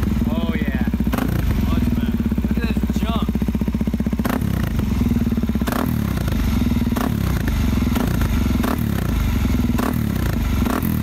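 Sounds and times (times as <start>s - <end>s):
motorcycle engine open exhaust: 0.0s - 11.0s.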